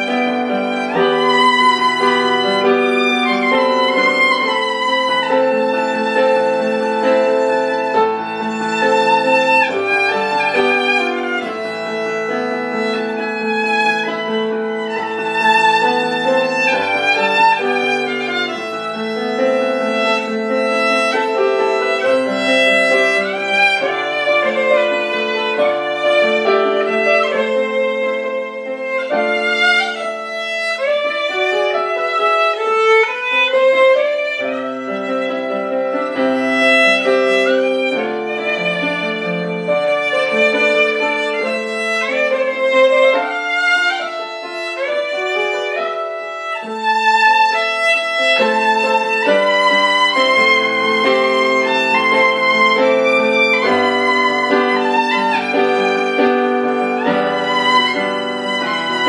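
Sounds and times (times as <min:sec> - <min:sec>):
instrumental music: 0:00.0 - 0:59.0.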